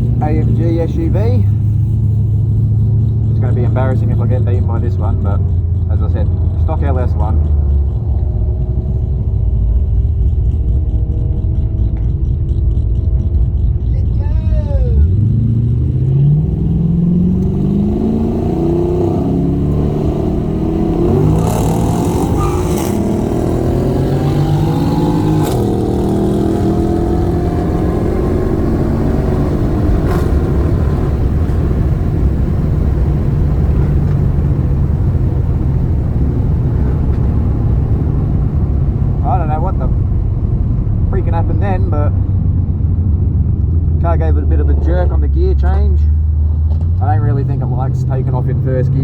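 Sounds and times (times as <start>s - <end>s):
car engine accelerating hard: 0.0s - 49.0s.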